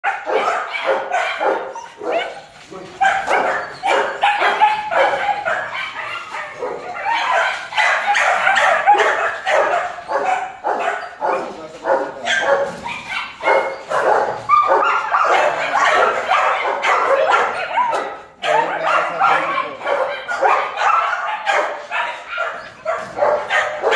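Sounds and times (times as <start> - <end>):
puppies barking and yipping: 0.0 - 23.9.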